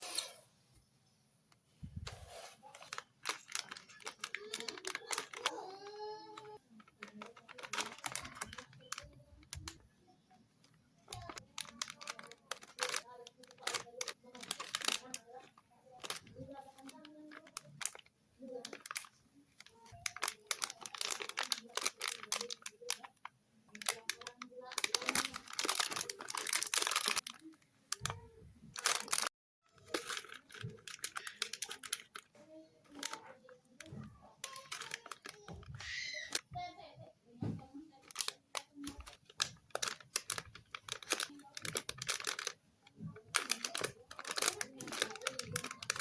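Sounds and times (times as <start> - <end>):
plastic wrapper crinkling: 1.8 - 36.8, 37.9 - 46.0.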